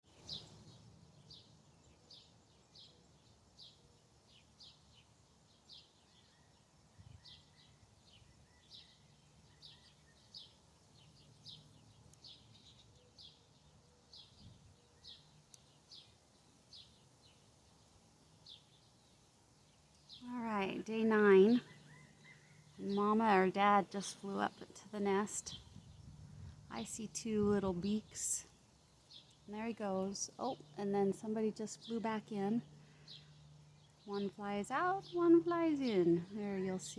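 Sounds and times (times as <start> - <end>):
bird chirping: 0.1 - 36.9.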